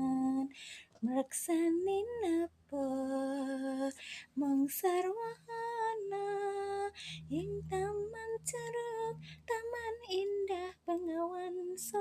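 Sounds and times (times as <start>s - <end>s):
woman singing in long held notes: 0.0s - 12.0s.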